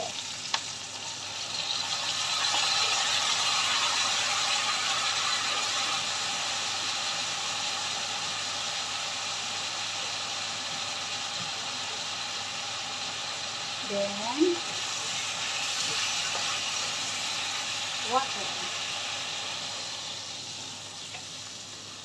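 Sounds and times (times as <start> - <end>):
sauce sizzling in a wok: 0.0 - 22.0.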